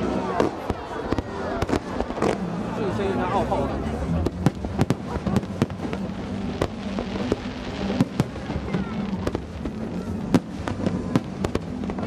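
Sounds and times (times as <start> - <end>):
firework bangs: 0.0 - 12.0
firework crackling hiss: 0.0 - 12.0.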